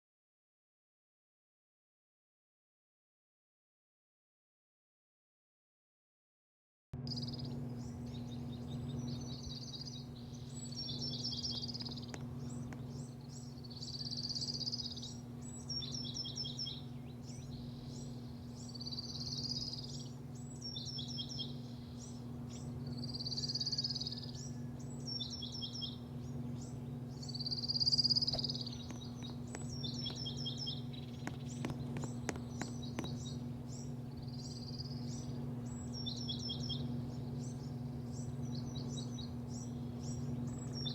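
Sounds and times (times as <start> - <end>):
songbird singing: 7.0 - 40.9
steady low hum: 7.0 - 40.9.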